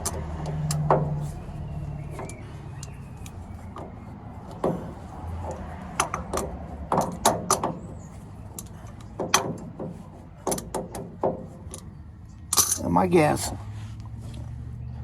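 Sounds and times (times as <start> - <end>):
hand tools clanking on metal: 0.0 - 13.4.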